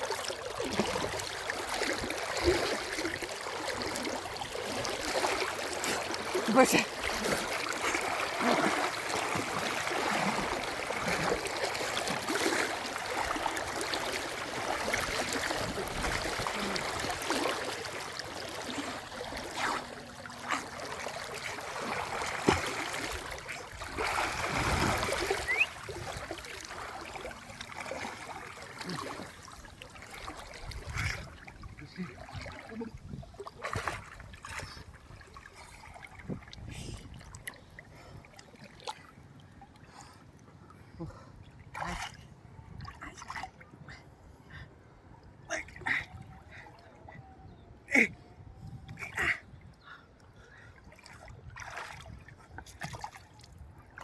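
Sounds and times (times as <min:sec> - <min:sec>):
water trickling and splashing: 0:00.0 - 0:40.1, 0:50.3 - 0:54.0.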